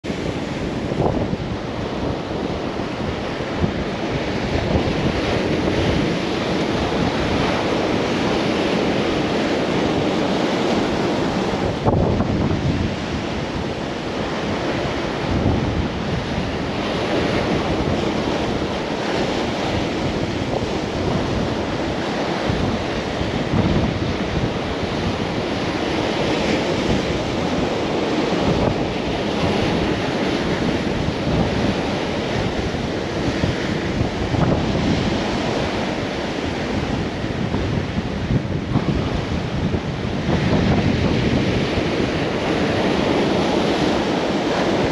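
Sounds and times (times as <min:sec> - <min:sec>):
surf breaking on rocks: 0:00.0 - 0:44.9
wind buffeting microphone: 0:00.0 - 0:44.9.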